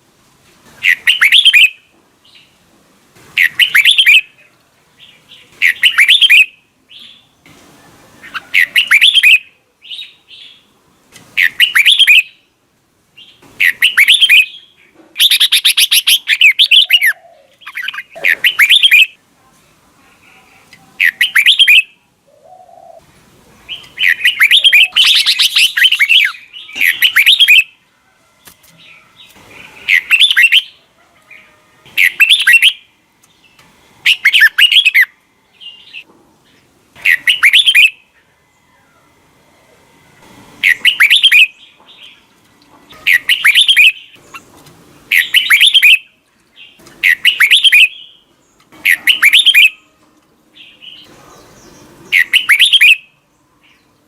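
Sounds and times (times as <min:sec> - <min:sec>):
bird singing warbled phrases: 0:00.8 - 0:02.6, 0:03.4 - 0:07.4, 0:08.2 - 0:12.6, 0:13.2 - 0:19.2, 0:20.1 - 0:27.8, 0:28.4 - 0:38.3, 0:40.6 - 0:42.3, 0:42.9 - 0:54.0.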